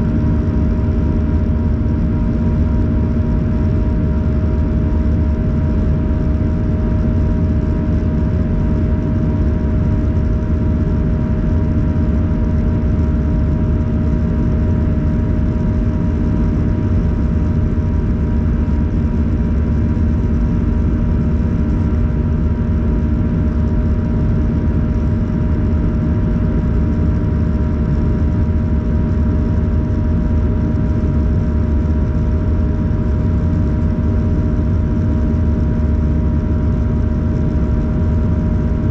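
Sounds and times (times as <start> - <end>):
deep rumble of airflow: 0.0 - 38.9.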